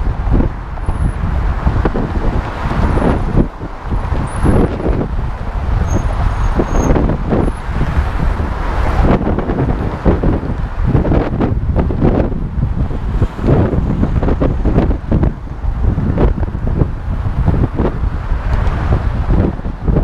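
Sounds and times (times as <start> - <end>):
car traffic: 0.0 - 20.0
wind buffeting microphone: 0.0 - 20.0.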